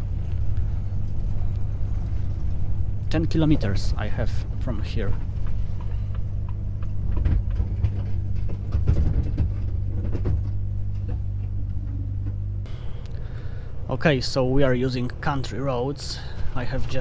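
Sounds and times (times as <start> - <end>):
diesel truck engine droning: 0.0 - 17.0
road rumble: 0.0 - 17.0.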